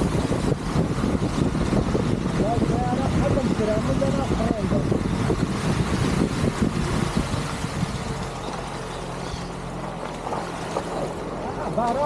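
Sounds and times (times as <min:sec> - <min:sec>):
vehicle motor rumbling: 0:00.0 - 0:12.0.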